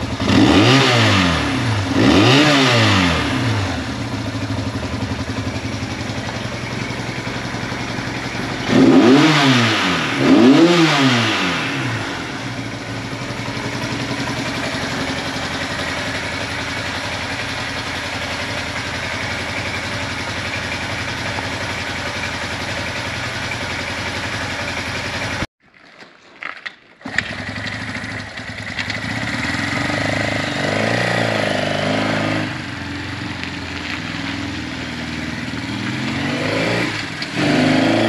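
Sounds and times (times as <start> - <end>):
motorcycle engine idling: 0.0 - 25.5, 27.1 - 36.3
motorcycle engine revving: 0.0 - 25.5, 27.0 - 38.0.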